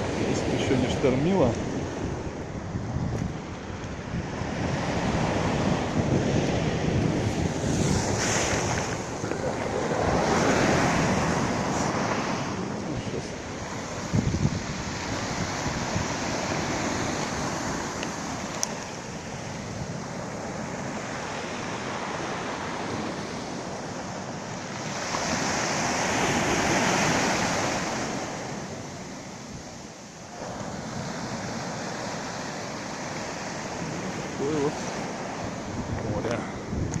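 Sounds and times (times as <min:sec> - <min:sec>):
surf washing on shore: 0:00.0 - 0:37.0.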